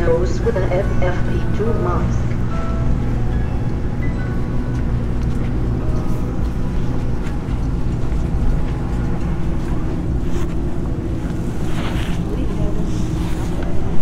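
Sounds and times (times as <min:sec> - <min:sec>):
crowd murmur and shuffling: 0:00.0 - 0:14.0
train rumble and hum: 0:00.0 - 0:14.0.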